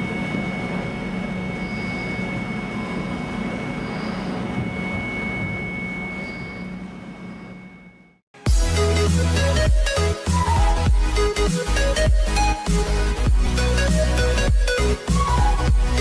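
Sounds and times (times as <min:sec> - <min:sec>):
mechanical drone with high whine: 0:00.0 - 0:16.0.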